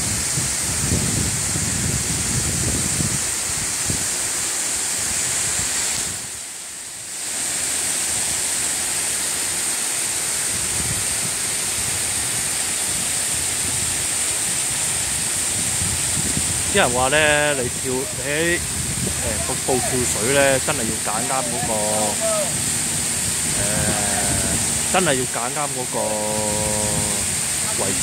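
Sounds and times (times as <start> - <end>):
wind gusting on microphone: 0.0 - 6.4, 10.2 - 28.0
waterfalls pouring into pool: 0.0 - 28.0.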